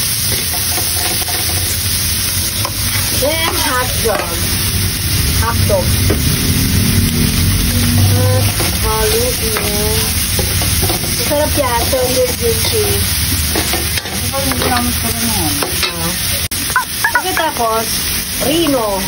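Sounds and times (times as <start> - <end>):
frying sizzle: 0.0 - 19.0
metal spatula scraping wok: 0.1 - 17.6.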